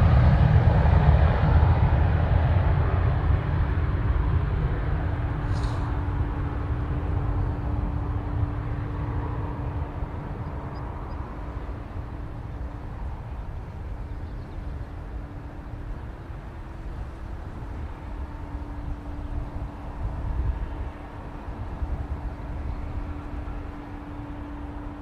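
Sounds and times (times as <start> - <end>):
distant jet engines roaring: 0.0 - 25.0.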